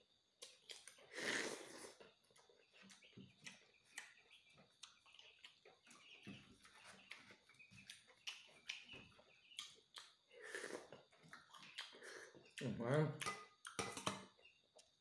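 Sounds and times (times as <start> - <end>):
person chewing food: 0.3 - 14.1.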